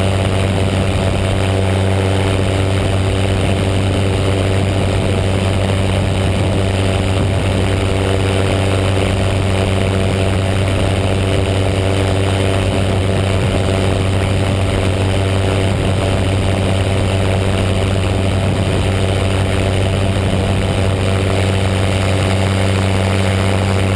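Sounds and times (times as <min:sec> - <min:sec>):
paramotor engine and propeller: 0:00.0 - 0:23.9.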